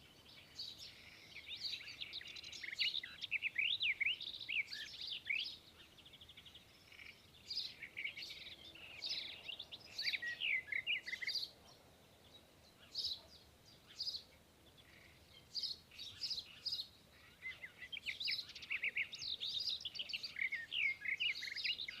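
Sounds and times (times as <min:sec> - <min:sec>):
songbirds chirping and twittering: 0:00.0 - 0:22.0.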